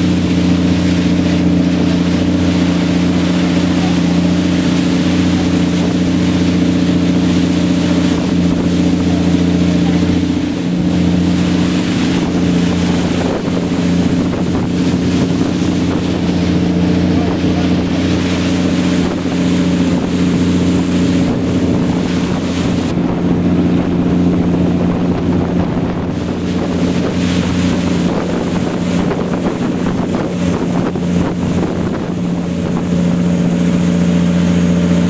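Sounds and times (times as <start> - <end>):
speedboat engine: 0.0 - 35.0
water against hull: 0.0 - 35.0
wind on microphone: 0.0 - 35.0.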